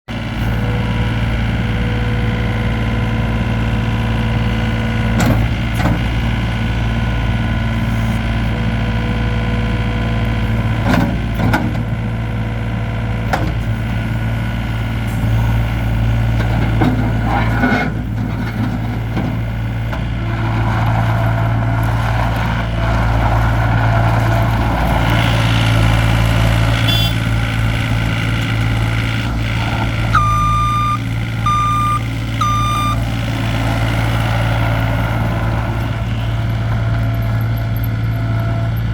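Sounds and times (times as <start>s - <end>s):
loader engine running: 0.1s - 38.9s.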